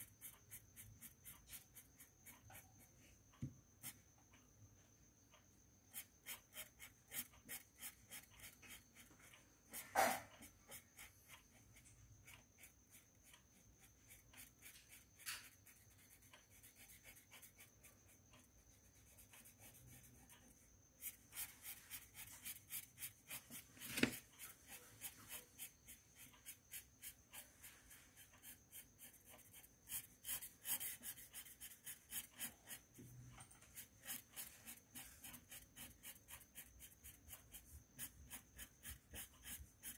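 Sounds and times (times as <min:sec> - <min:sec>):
marker scribbling on paper: 0:05.9 - 0:33.0, 0:33.6 - 0:39.9.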